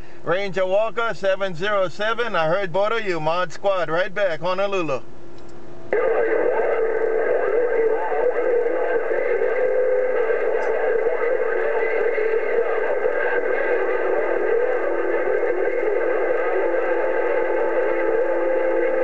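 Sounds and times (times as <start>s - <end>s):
radio static: 0.0s - 5.0s, 5.9s - 19.0s
unintelligible radio transmission: 0.0s - 5.0s, 5.9s - 19.0s.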